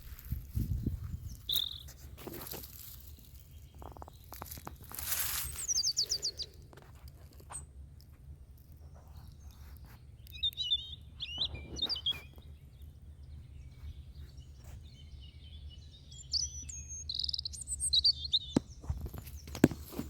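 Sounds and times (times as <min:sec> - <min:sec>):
small birds chirping and trilling: 0:00.0 - 0:20.0.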